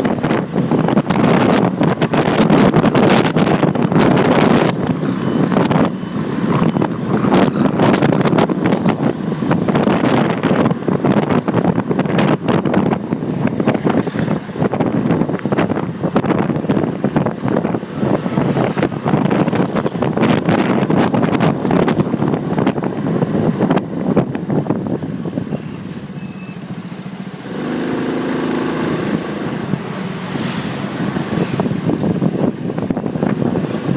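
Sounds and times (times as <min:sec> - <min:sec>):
road and traffic noise: 0:00.0 - 0:33.9
wind buffeting microphone: 0:00.0 - 0:33.9.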